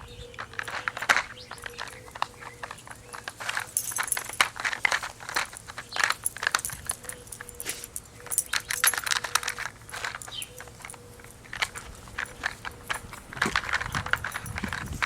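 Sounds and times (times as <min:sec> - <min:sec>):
puzzle toy clicking and clacking: 0:00.2 - 0:15.0.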